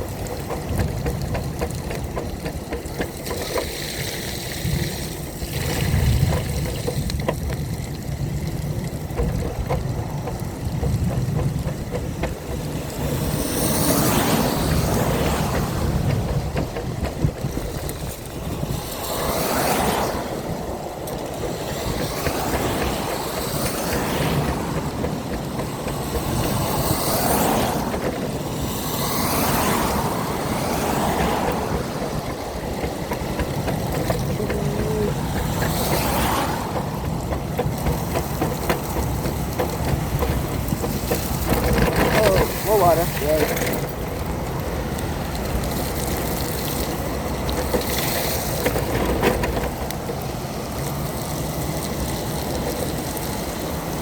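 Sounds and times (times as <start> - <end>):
tyres rolling through water: 0.0 - 54.0.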